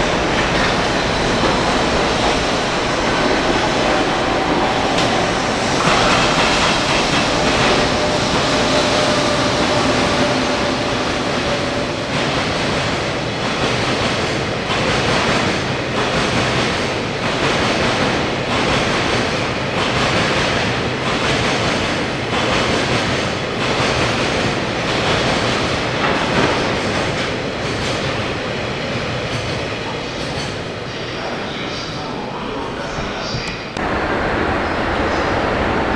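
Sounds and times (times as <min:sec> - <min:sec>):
train wheels clattering on rails: 0:00.0 - 0:35.9.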